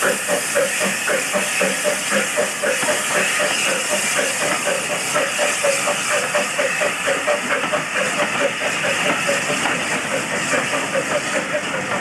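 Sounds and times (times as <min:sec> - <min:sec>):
coaches running on rails: 0:00.0 - 0:12.0
steam engines chuffing: 0:00.0 - 0:12.0
steam hiss: 0:00.0 - 0:12.0.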